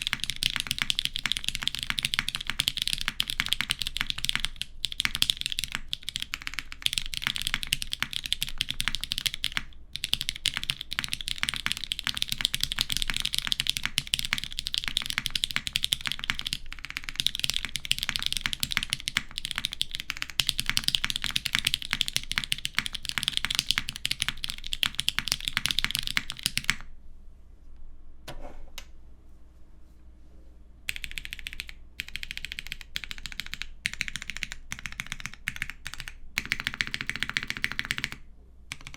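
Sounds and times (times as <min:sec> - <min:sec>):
fast mechanical keyboard typing: 0:00.0 - 0:26.8, 0:30.9 - 0:38.9.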